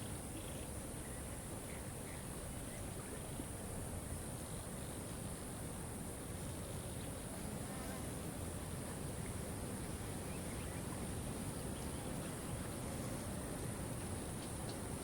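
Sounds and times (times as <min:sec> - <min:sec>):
constant high hiss: 0:00.0 - 0:15.0.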